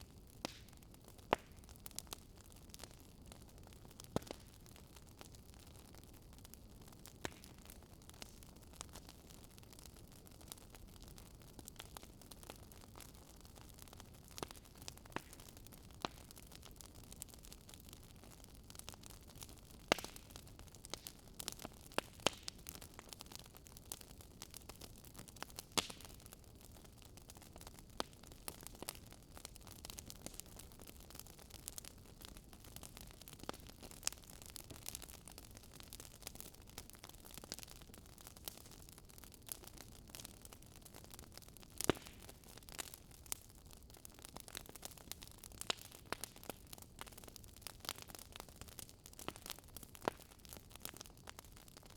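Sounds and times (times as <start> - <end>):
burning logs popping: 0.0 - 51.9.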